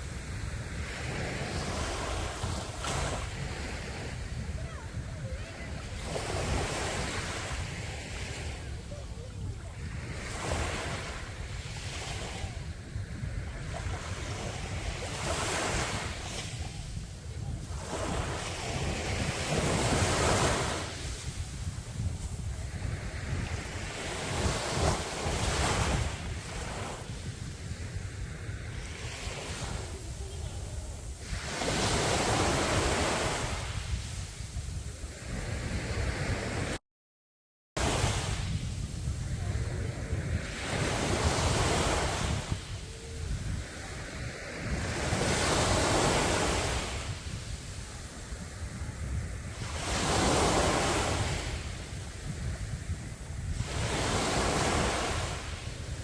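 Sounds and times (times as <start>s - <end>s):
sea waves breaking: 0.0s - 36.8s, 37.8s - 56.0s
wind buffeting microphone: 0.0s - 36.8s, 37.8s - 56.0s.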